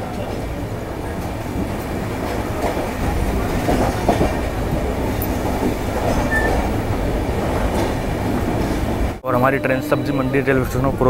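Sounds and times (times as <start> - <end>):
rail joint clicks: 0.0 - 9.2
train wheels rumbling on track: 0.0 - 9.2.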